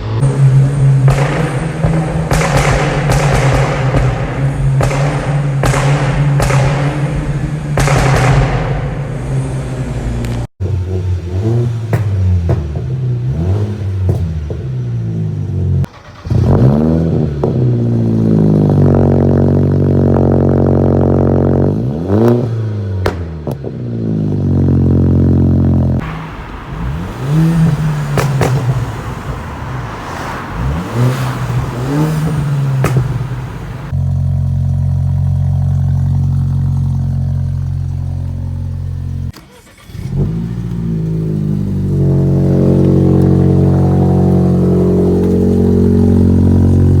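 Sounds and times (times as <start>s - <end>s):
car engine revving: 0.0s - 47.0s
exhaust pops and crackles: 0.9s - 8.9s, 11.4s - 47.0s.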